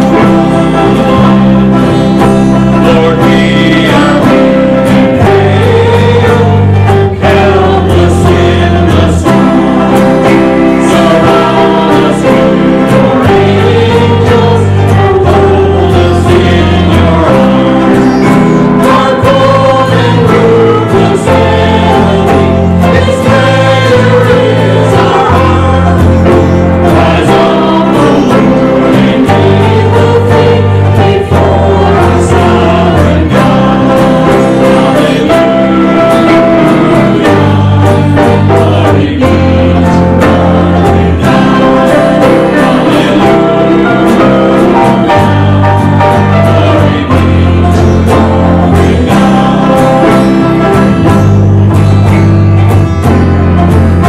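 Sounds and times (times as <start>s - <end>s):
congregation singing a hymn: 0.0s - 54.0s
instrumental accompaniment: 0.0s - 54.0s
steady bass notes: 0.0s - 54.0s.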